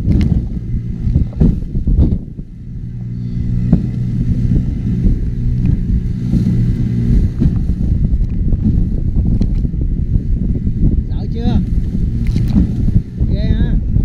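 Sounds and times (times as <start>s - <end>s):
boat motor running: 0.0s - 14.0s
wind rumbling on microphone: 0.0s - 14.0s.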